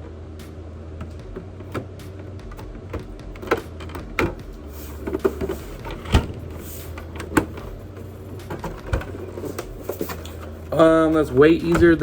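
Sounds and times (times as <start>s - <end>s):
low hum: 0.0s - 12.0s
console parts clicking and knocking: 1.0s - 12.0s.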